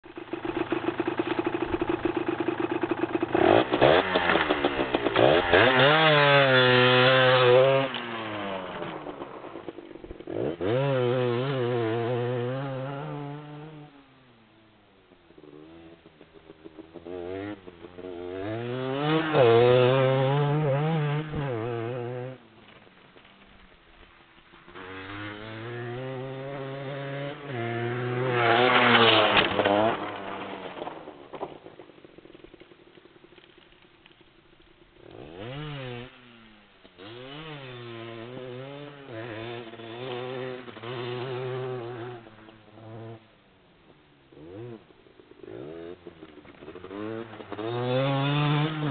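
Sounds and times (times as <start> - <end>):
motocross bike engine revving: 0.1 - 14.4, 15.4 - 22.8, 24.5 - 32.5, 35.0 - 43.3, 44.3 - 48.9.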